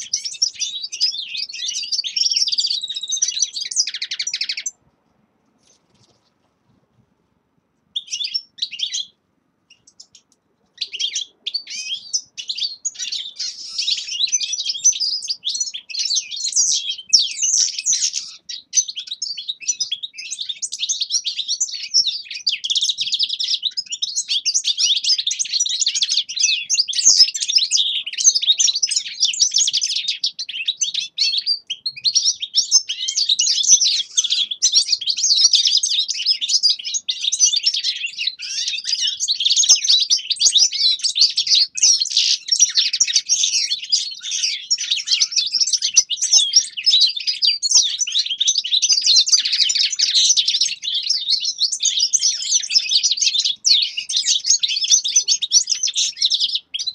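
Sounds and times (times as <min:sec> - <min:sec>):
finches twittering: 0:00.0 - 0:04.8, 0:09.7 - 0:56.9.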